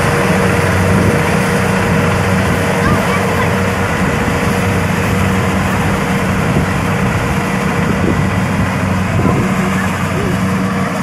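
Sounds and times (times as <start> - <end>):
combine harvester diesel engine: 0.0 - 11.0
rushing mechanical noise: 0.0 - 11.0.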